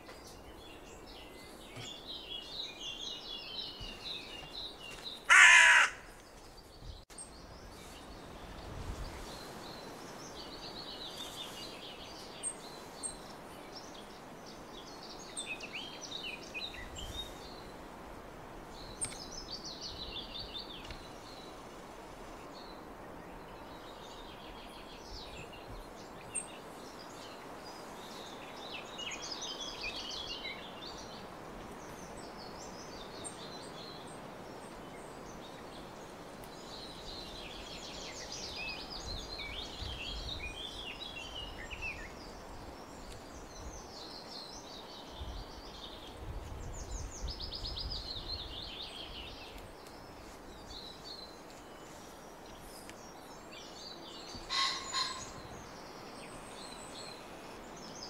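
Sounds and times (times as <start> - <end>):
songbirds trilling: 0.0 - 17.8, 22.5 - 58.0
outdoor background noise: 0.0 - 58.0.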